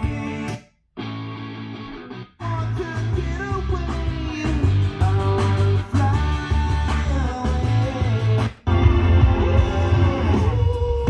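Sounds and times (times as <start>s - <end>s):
rock music through speakers: 0.0s - 11.0s.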